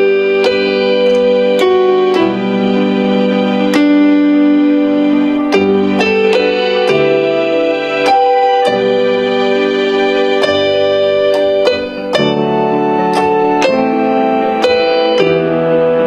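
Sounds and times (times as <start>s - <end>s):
electronic keyboard melody: 0.0s - 16.0s.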